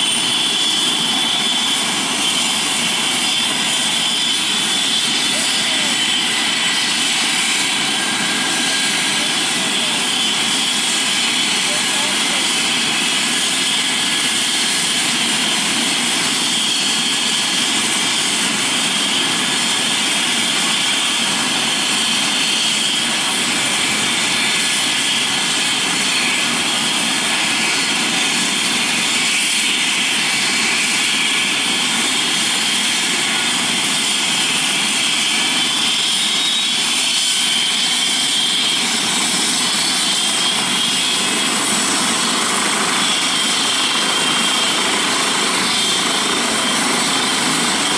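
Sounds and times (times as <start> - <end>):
helicopter rotor and exhaust: 0.0 - 47.9
helicopter turbine whine: 0.0 - 47.9.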